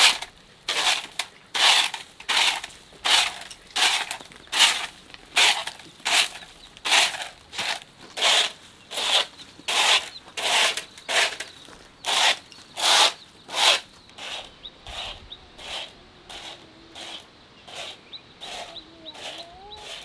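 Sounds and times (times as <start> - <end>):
broom sweeping dirt: 0.0 - 20.0.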